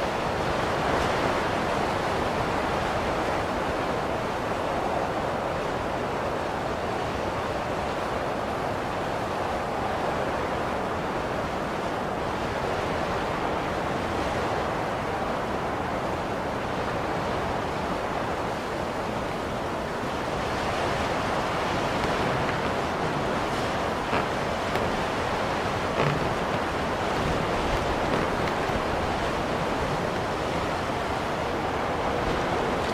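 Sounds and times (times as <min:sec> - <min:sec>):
blizzard wind blowing: 0:00.0 - 0:32.9.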